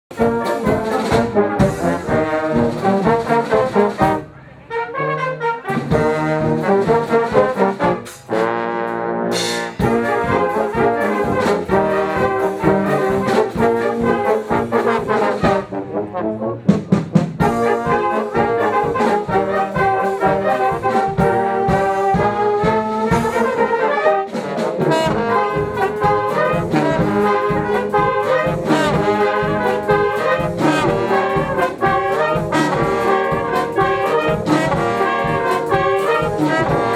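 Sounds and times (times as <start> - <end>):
steady drum beat: 0.1 - 4.2, 5.6 - 15.8, 16.7 - 36.9
trombones and trumpets playing: 0.1 - 36.9.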